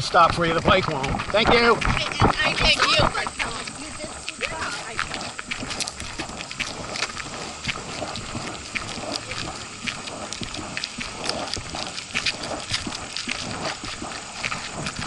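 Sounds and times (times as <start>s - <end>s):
boots on rocky gravel trail: 0.0s - 15.0s.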